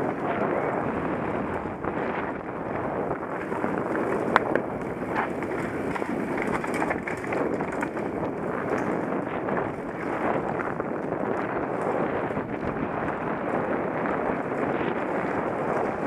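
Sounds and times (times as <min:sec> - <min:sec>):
bike rattling on rough ground: 0:00.0 - 0:16.0
bike tyre rumble: 0:00.0 - 0:16.0
wind buffeting microphone: 0:00.0 - 0:16.0.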